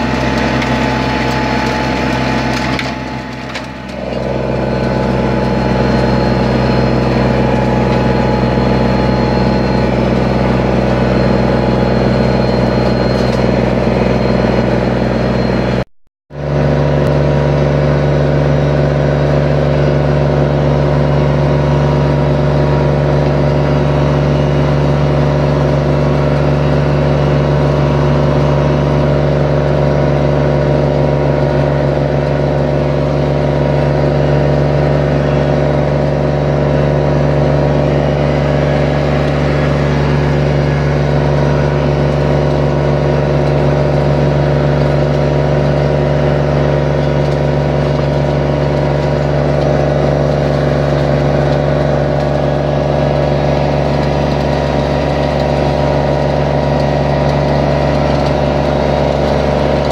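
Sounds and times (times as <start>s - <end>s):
flail mower cutting grass: 0.0s - 15.8s, 16.4s - 59.9s
tractor diesel engine running: 0.0s - 59.9s.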